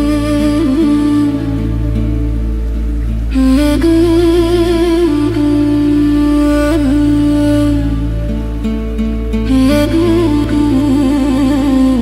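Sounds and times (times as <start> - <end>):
steady low drone: 0.0 - 12.0.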